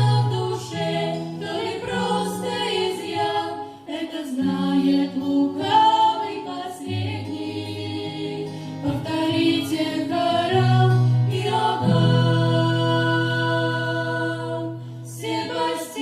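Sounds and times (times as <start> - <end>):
group singing in harmony: 0.0 - 16.0.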